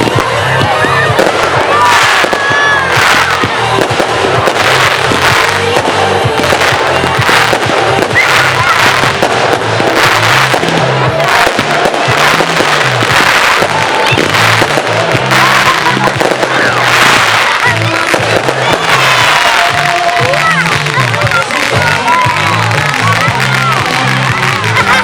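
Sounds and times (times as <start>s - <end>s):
firework whistles: 0.0s - 25.0s
fireworks bangs and crackles: 0.0s - 25.0s
music with rhythmic bass: 0.0s - 25.0s.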